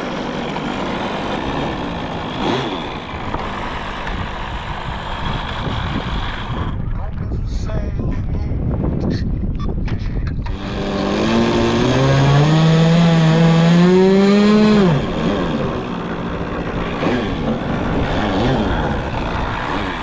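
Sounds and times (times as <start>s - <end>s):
model airplane engine buzzing: 0.0s - 7.1s, 10.2s - 20.0s.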